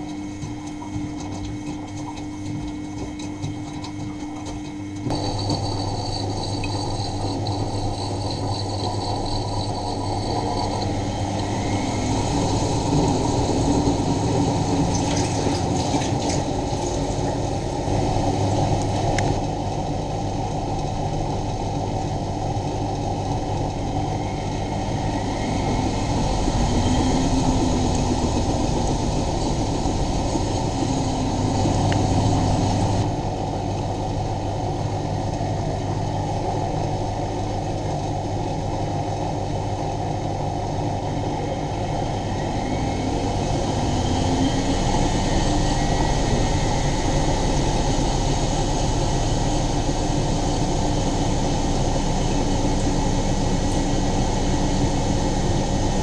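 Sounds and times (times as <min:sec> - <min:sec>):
washing machine drum motor: 0:00.0 - 0:56.0
washing machine pump hum: 0:00.0 - 0:56.0.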